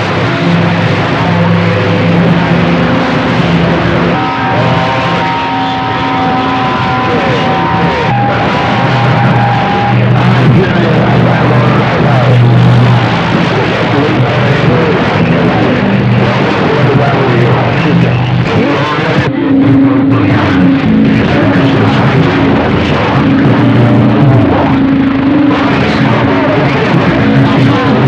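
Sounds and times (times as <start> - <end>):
garbled radio signals: 0.0 - 28.0
radio static hissing: 0.0 - 28.0.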